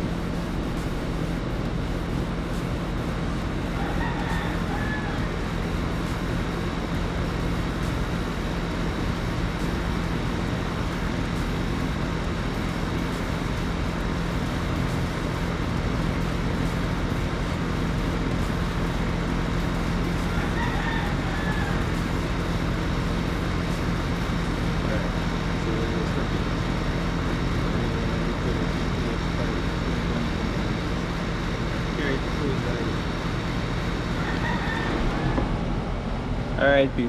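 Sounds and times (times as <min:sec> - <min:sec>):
steady hum and hiss: 0:00.0 - 0:37.0.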